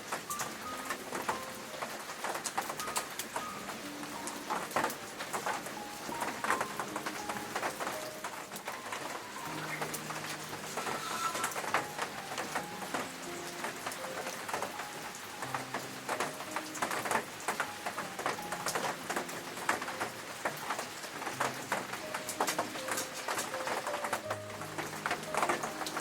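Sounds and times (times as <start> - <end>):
rain dripping and pattering: 0.0 - 26.0
soft slow melody: 0.0 - 26.0.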